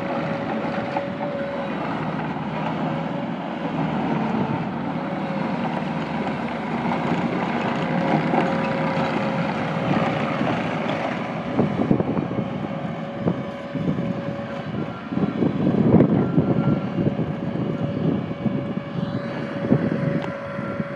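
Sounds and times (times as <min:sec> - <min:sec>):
diesel loader engine running: 0:00.0 - 0:20.9
steady whine: 0:00.0 - 0:20.9.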